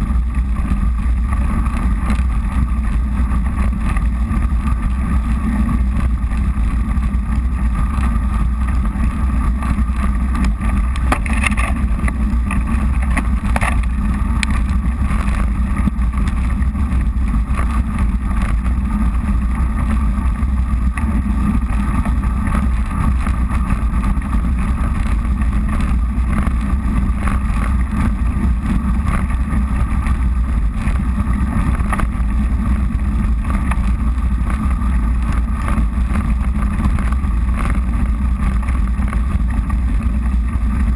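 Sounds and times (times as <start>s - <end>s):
sharp ticks from bumps: 0.0s - 40.9s.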